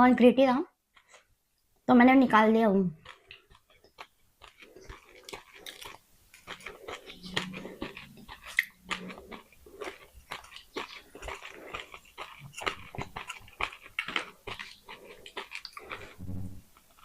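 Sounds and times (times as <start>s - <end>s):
crunching and chewing clay pot: 0.9s - 1.3s, 3.0s - 16.2s.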